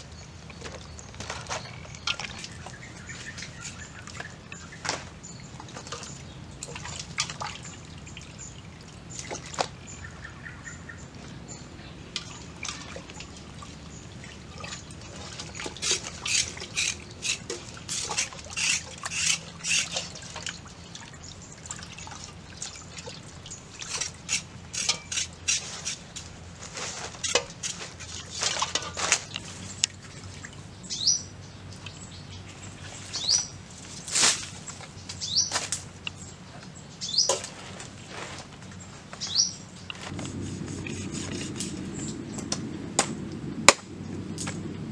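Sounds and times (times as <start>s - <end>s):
water splashing and trickling: 0.0s - 42.4s.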